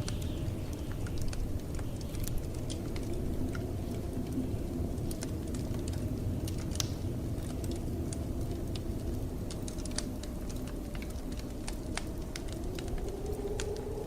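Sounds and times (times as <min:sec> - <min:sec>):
blizzard wind: 0:00.0 - 0:14.0
wood fire crackling and popping: 0:00.0 - 0:14.0.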